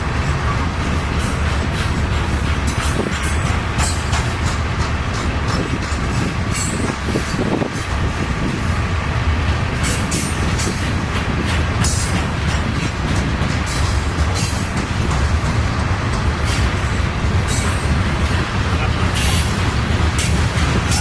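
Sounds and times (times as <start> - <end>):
freight train rumbling past: 0.0 - 21.0
wheels clacking over rail joints: 0.0 - 21.0.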